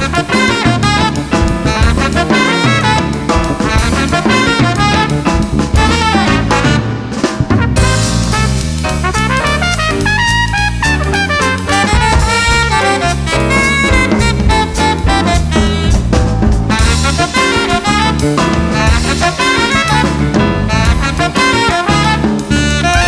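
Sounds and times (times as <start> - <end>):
brass or saxophone lines: 0.0 - 23.0
swing jazz band: 0.0 - 23.0
walking bass: 0.0 - 23.0.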